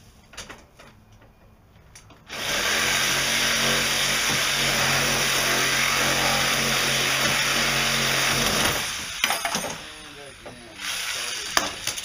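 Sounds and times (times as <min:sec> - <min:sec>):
power tool cutting sheet metal: 0:02.3 - 0:12.0.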